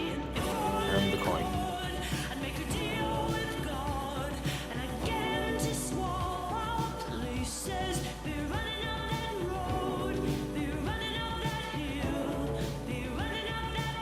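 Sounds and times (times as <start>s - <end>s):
pop music with singing: 0.0s - 14.0s.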